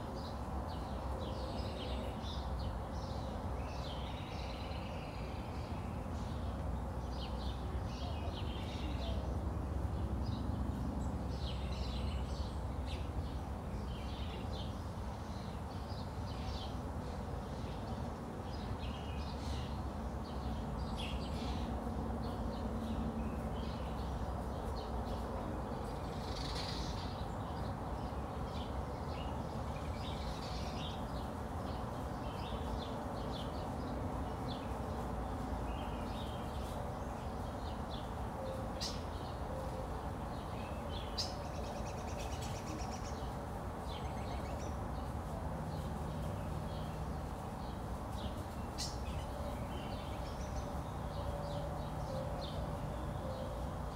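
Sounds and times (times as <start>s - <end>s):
bird calls and chirps: 10.0s - 53.9s.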